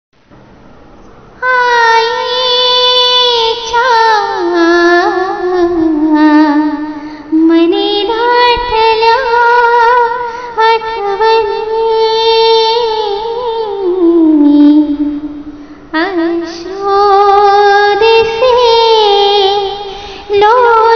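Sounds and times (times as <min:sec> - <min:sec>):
woman singing: 0:01.4 - 0:20.9.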